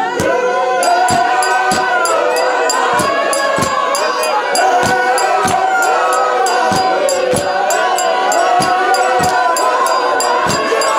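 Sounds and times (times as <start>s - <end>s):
group of voices singing: 0.0s - 10.9s
rhythmic handclaps: 0.0s - 10.9s
woman singing into microphone: 0.0s - 10.9s.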